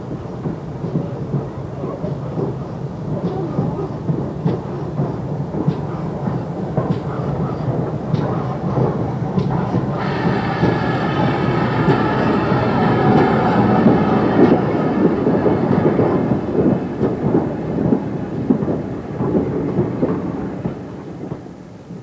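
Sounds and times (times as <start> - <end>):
steam locomotive passing: 0.0 - 22.0
train wheels clattering on track: 0.0 - 22.0.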